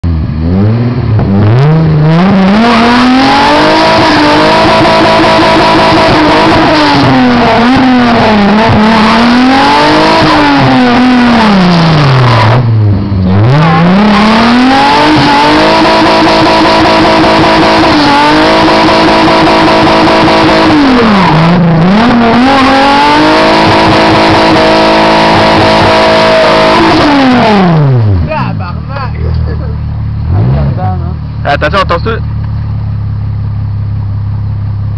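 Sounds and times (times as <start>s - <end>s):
car engine revving hard: 0.0s - 32.2s.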